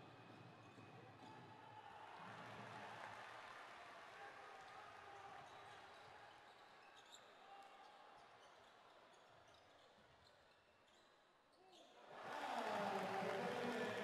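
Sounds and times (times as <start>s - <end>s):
arena crowd noise and voices: 0.0s - 9.4s, 11.6s - 14.0s.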